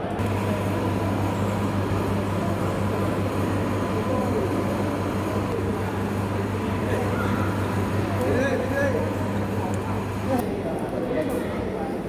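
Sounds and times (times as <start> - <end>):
transformer humming low: 0.0 - 10.6.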